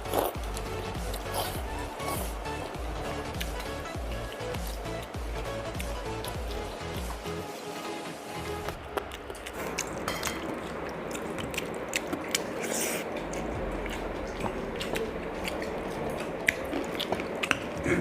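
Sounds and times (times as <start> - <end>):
chewing and wet mashing: 0.0 - 7.4, 8.4 - 18.0.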